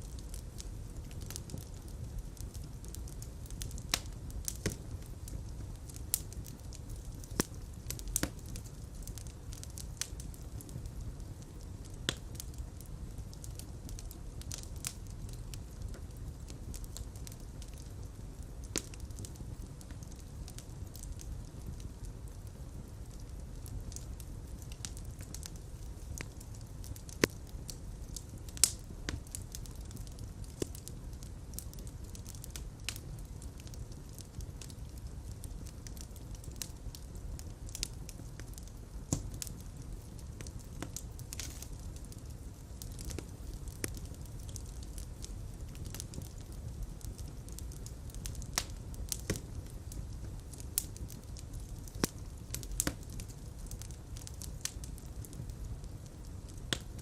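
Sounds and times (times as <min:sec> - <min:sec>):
fire crackling in fireplace: 0:00.0 - 0:57.0
rumble of flames: 0:00.0 - 0:57.0.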